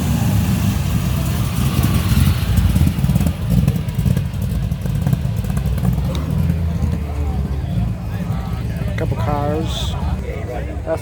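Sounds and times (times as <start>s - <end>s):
car engine exhaust rumble: 0.0s - 10.4s.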